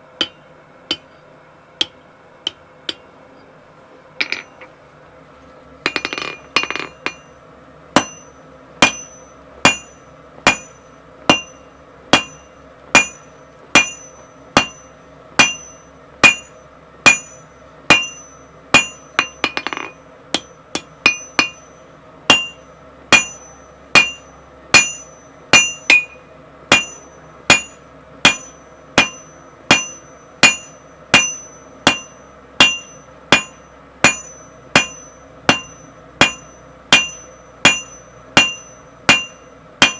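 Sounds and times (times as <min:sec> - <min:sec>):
hammer striking steel on anvil: 0:00.1 - 0:01.2, 0:01.8 - 0:03.1, 0:04.2 - 0:04.7, 0:05.9 - 0:07.4, 0:08.0 - 0:39.9.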